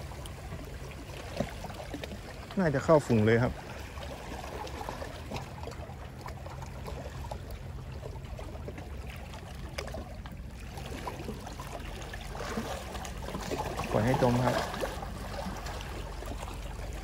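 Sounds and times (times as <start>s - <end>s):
sea water lapping at shore: 0.0s - 17.0s.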